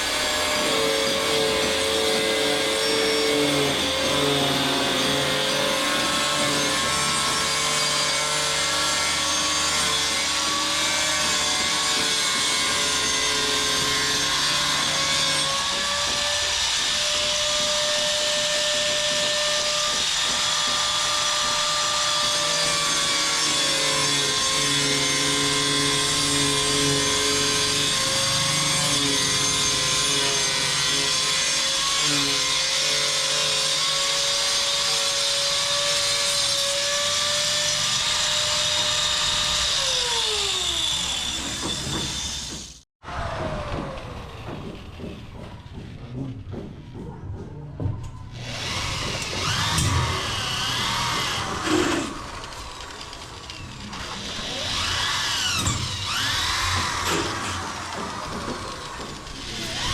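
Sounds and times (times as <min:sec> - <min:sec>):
power tool running: 0:00.0 - 0:47.1, 0:48.3 - 0:59.9.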